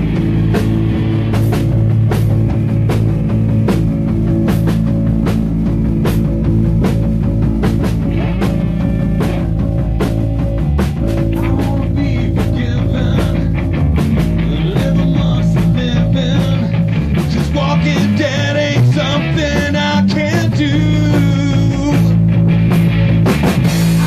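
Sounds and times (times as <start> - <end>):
punk rock band playing live: 0.0 - 24.0.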